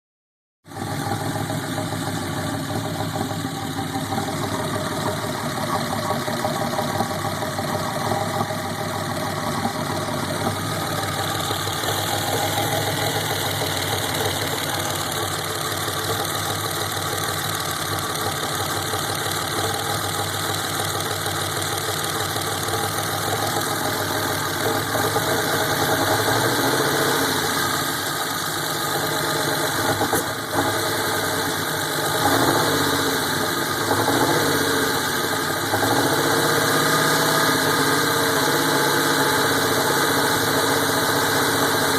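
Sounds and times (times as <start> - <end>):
car engine idling roughly: 0.7 - 41.9.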